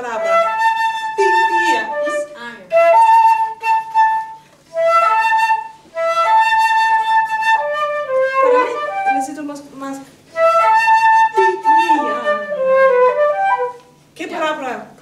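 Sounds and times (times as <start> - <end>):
flute playing long notes: 0.0 - 9.5, 10.3 - 14.0.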